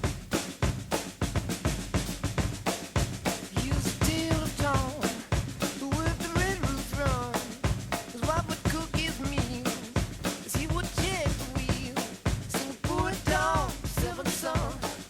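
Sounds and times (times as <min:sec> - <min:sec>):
drum kit playing fast beat: 0:00.0 - 0:15.0.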